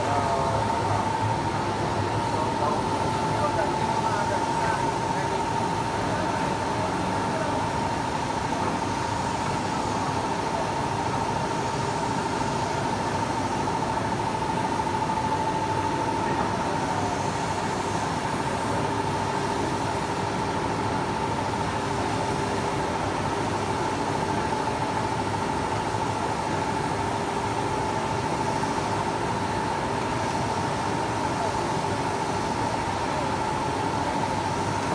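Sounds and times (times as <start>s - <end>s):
printer mechanical hum: 0.0s - 34.9s.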